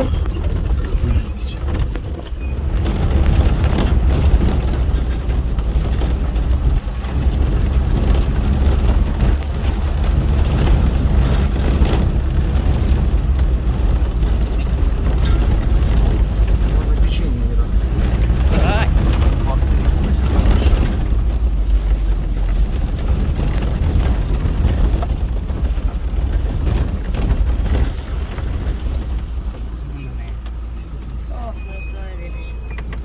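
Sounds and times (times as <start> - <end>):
wind buffeting microphone: 0.0 - 29.7
vehicle engine and road rumble: 0.0 - 33.0.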